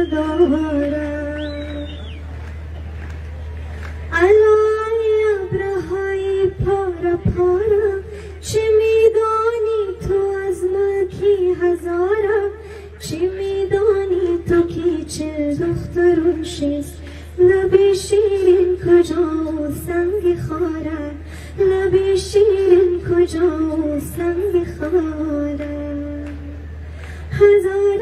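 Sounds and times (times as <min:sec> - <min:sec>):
woman singing into a microphone: 0:00.0 - 0:02.0, 0:04.1 - 0:28.0
steady low hum: 0:00.0 - 0:28.0.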